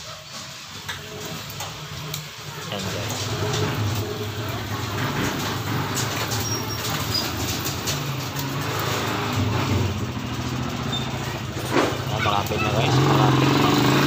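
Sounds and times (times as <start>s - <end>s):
vehicle engine idling: 0.7s - 14.0s.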